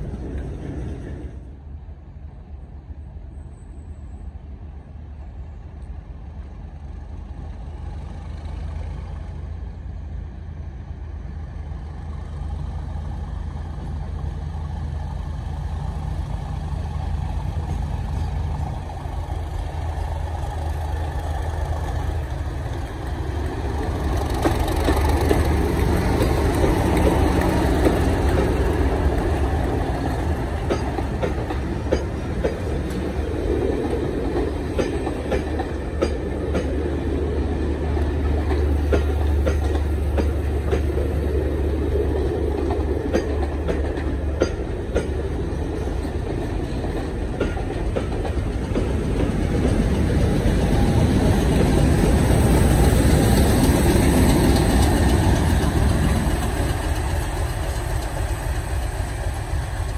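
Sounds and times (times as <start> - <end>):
diesel locomotive engine: 0.0 - 59.9
train wheels rumbling on rails: 0.0 - 59.9.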